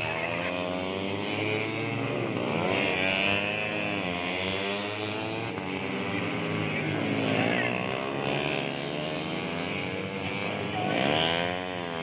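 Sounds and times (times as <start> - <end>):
motorcycles racing at high revs: 0.0 - 12.0.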